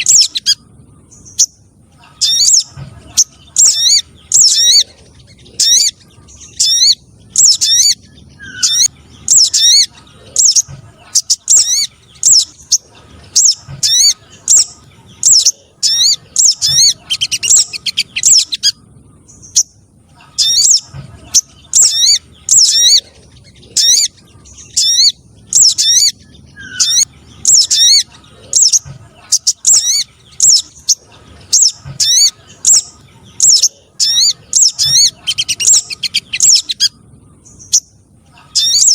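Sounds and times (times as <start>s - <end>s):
sharp high bird chirps: 0.0s - 12.8s, 13.4s - 38.0s, 38.6s - 38.9s.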